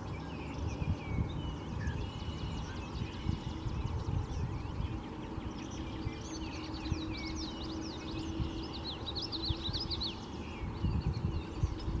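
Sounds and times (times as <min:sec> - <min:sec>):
bird singing high sweeping notes: 0:00.0 - 0:12.0
faint steady hum: 0:00.0 - 0:12.0.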